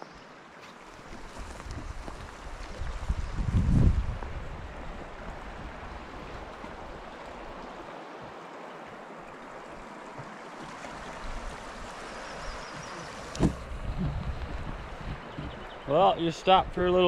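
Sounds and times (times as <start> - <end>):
brook flowing water: 0.0 - 17.0.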